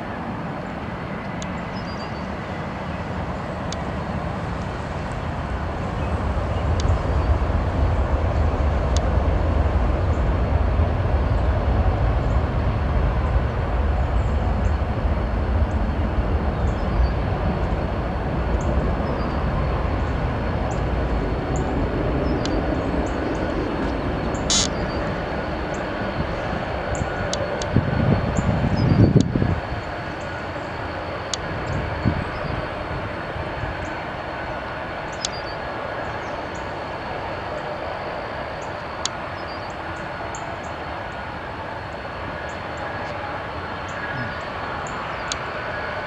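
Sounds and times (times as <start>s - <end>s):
jet engines rumbling: 0.0s - 46.0s
loud low rush: 2.1s - 46.0s.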